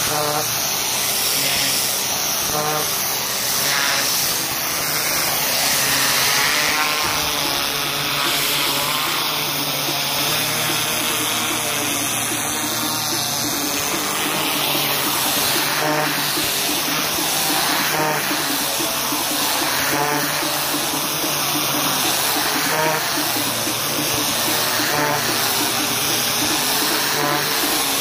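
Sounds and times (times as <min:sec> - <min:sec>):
machine motor running: 0:00.0 - 0:28.0
pressure washer spray hissing: 0:00.0 - 0:28.0.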